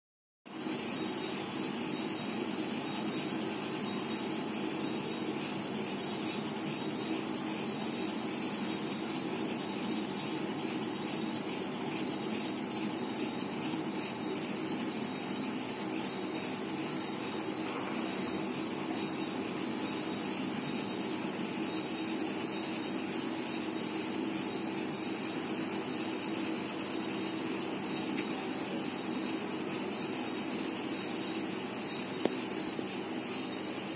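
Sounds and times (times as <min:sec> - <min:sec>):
night insects chorus: 0:00.5 - 0:33.9.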